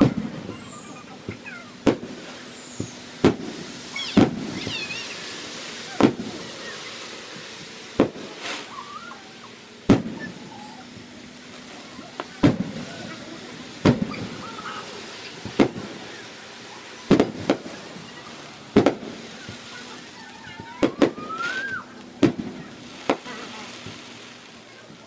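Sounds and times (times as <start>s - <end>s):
firework shells booming: 0.0s - 24.5s.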